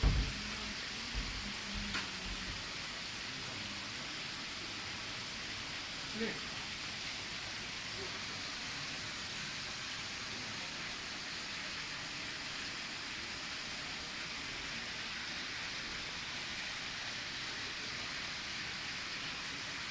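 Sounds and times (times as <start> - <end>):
fountain water splashing: 0.0 - 19.9.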